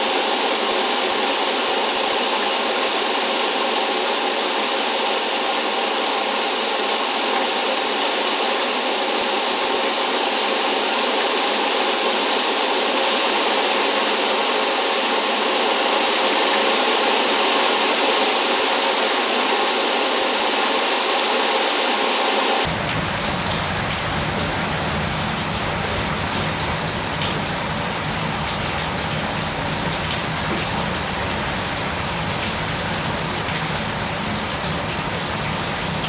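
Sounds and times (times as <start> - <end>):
small motor running with hiss: 0.0 - 36.0.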